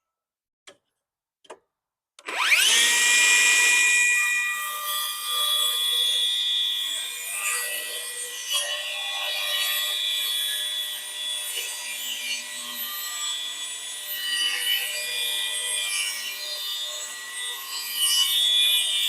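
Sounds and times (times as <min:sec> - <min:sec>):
circular saw cutting wood: 0:02.2 - 0:19.0.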